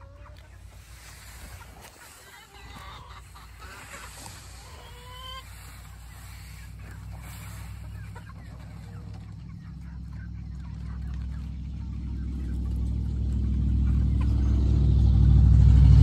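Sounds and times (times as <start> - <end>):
chickens clucking: 0.0 - 14.9
low steady rumble: 3.0 - 16.0.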